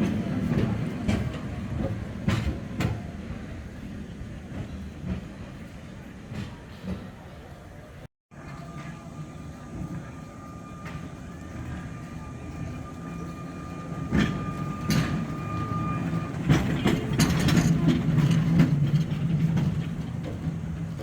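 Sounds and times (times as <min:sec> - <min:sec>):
wheels clacking over rail joints: 0:00.0 - 0:07.7, 0:08.4 - 0:21.0
tram rumbling on track: 0:00.0 - 0:21.0.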